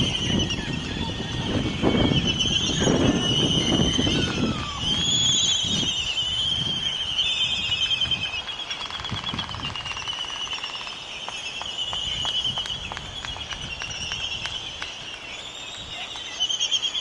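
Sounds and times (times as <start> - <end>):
bird trilling: 0.0 - 17.0.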